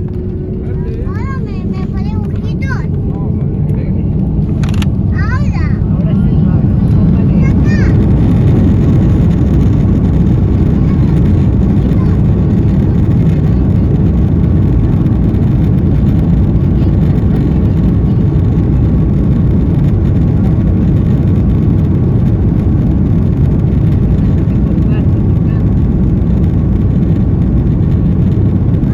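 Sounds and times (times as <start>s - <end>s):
jet engine and airflow rumble: 0.0s - 28.9s.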